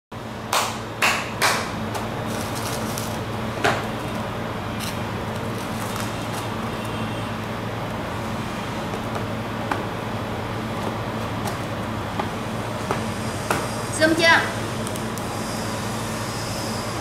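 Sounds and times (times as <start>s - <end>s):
low mechanical hum: 0.1s - 17.0s.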